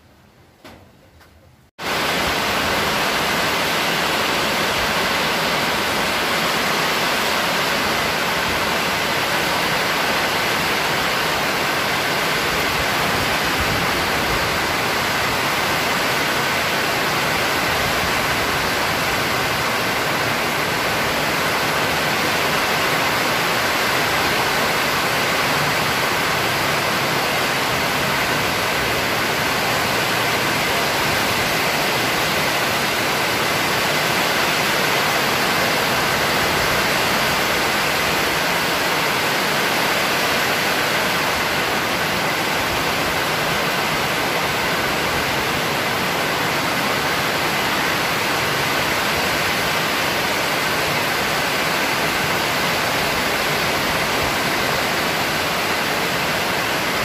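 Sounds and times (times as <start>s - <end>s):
heavy rain pouring: 1.8s - 57.0s.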